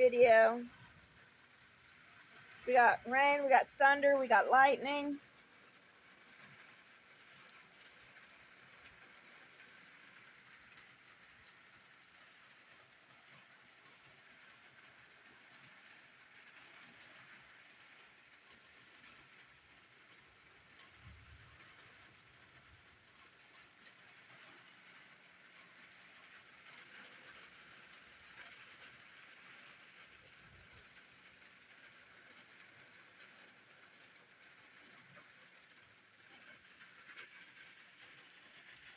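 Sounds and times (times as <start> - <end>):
faint rain falling: 0.0 - 38.9.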